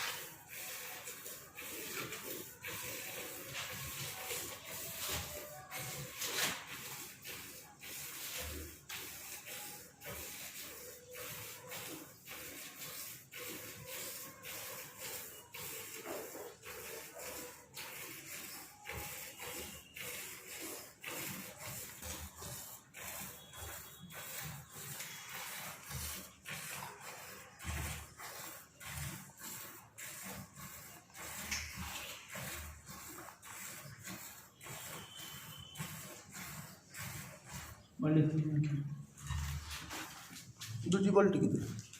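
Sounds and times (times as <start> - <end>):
milk squirting into a bucket: 0.0 - 37.9.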